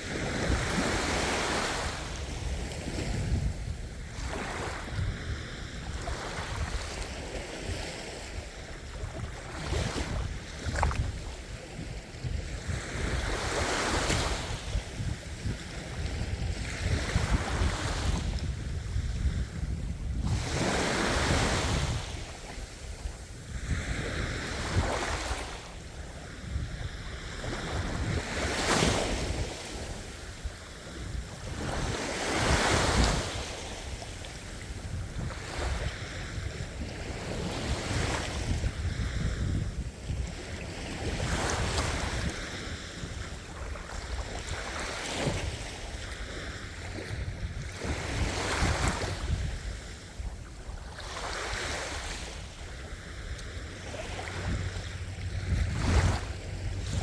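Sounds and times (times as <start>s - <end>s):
ocean waves breaking on shore: 0.0s - 57.0s
wind noise on microphone: 0.0s - 57.0s.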